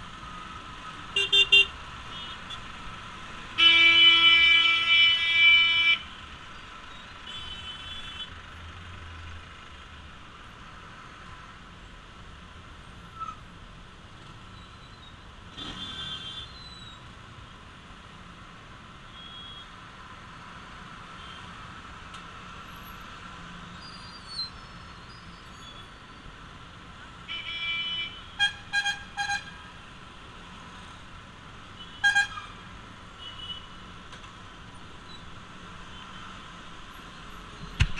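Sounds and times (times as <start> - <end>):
road traffic noise: 0.0 - 37.9.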